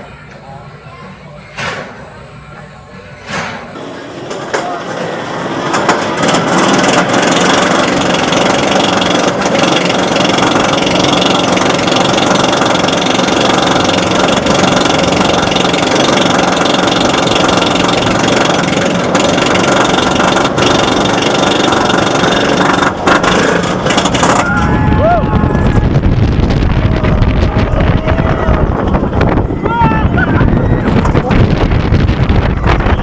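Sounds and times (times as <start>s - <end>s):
roller coaster rumbling on track: 0.0s - 33.0s.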